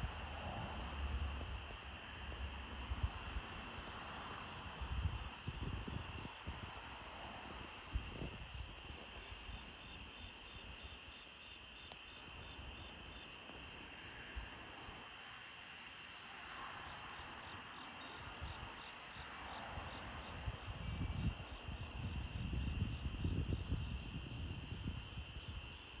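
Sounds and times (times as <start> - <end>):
crickets and insects chirping: 0.0 - 26.0.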